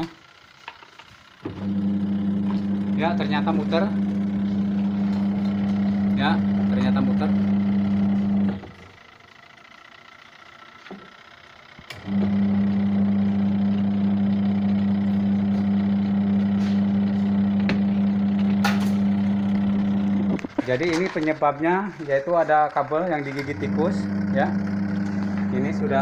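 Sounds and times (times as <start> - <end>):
washing machine motor humming: 1.4 - 26.0.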